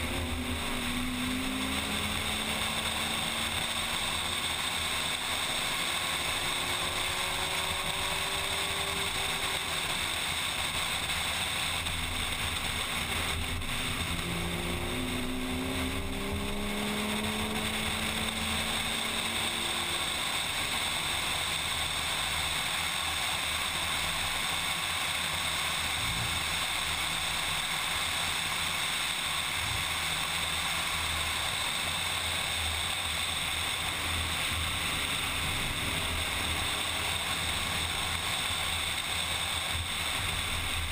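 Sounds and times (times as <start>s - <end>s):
car engine at speed: 0.0s - 40.9s.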